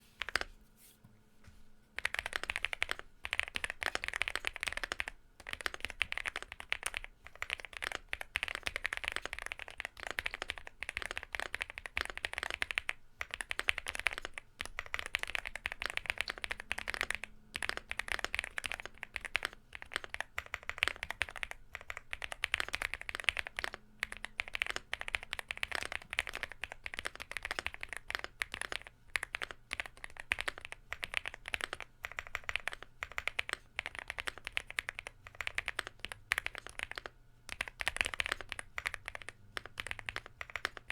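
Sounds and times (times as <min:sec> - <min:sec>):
mechanical keyboard typing: 0:02.0 - 0:40.9.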